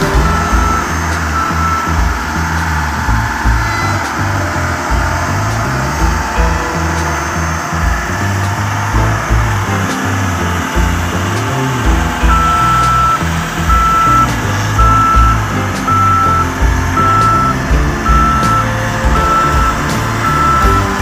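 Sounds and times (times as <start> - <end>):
reversing alarm beeping: 0.0 - 9.6, 11.8 - 21.0
diesel engine running: 0.0 - 21.0.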